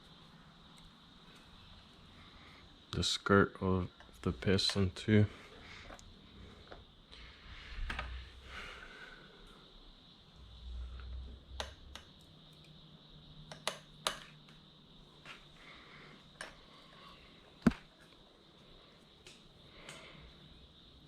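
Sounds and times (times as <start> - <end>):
faint high-pitched whine: 0.0 - 21.0.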